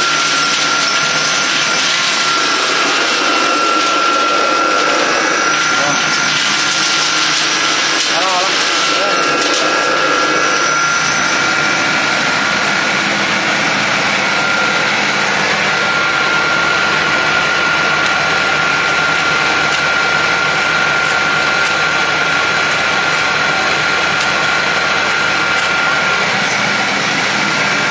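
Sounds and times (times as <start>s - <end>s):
electric grinder whirring: 0.0s - 27.9s.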